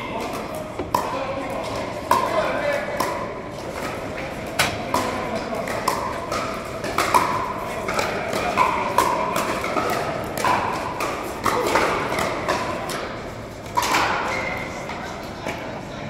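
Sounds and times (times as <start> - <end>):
paddles hitting plastic ball: 0.1 - 15.6.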